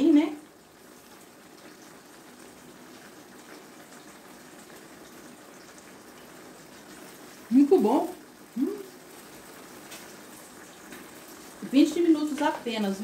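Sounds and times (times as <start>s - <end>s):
pot bubbling: 0.0s - 13.0s.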